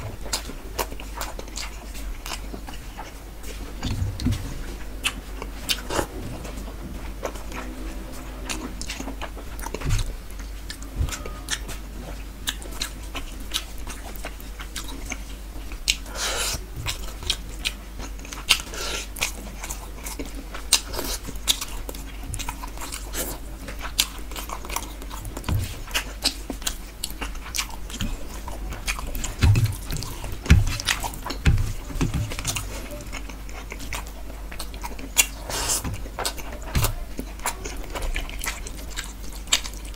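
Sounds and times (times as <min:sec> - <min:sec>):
close-up chewing: 0:00.0 - 0:39.9.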